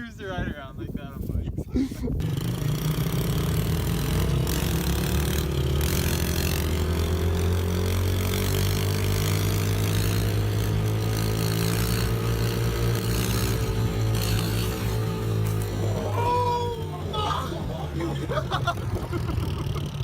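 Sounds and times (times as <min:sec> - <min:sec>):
small motorbike engine revving: 0:02.2 - 0:20.0.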